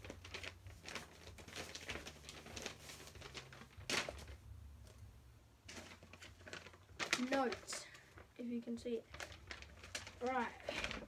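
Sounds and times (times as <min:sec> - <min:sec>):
paper rustling: 0:00.0 - 0:05.1, 0:05.7 - 0:11.0.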